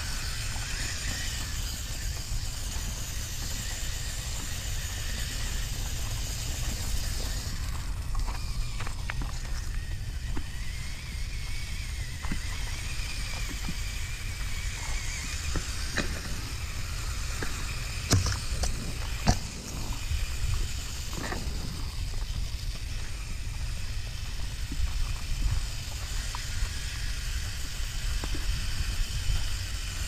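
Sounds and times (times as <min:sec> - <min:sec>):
electric motor whining: 0:00.0 - 0:30.0
gravel crunching footsteps: 0:00.0 - 0:30.0.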